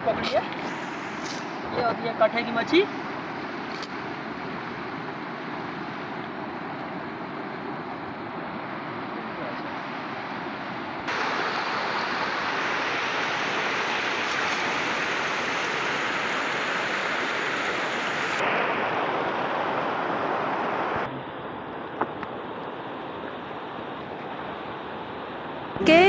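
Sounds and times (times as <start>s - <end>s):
river rushing over stones: 0.0s - 26.0s.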